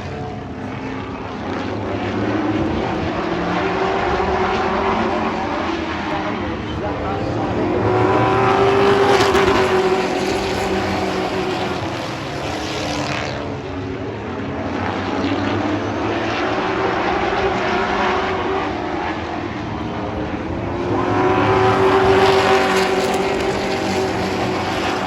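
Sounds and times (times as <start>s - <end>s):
race truck engines at full throttle: 0.0s - 25.0s.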